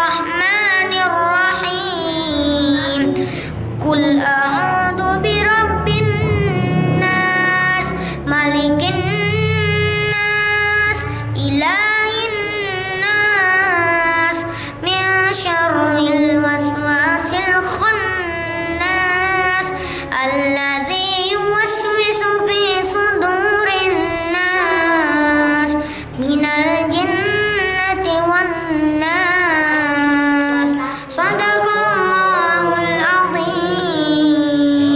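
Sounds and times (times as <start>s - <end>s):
boy chanting into a microphone: 0.0s - 34.9s.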